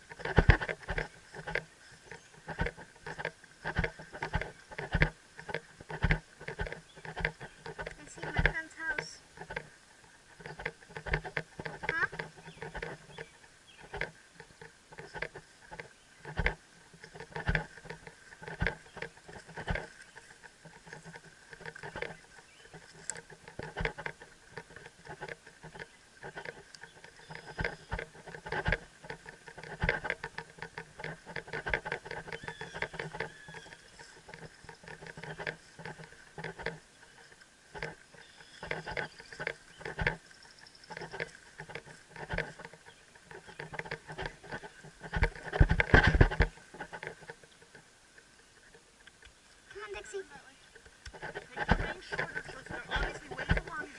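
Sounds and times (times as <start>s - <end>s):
camera rattling against helmet: 0.0s - 53.9s.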